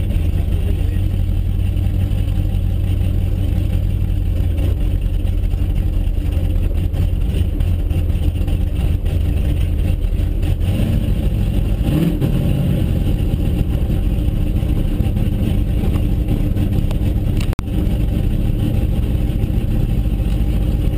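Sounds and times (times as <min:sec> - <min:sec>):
car engine humming: 0:00.0 - 0:20.9.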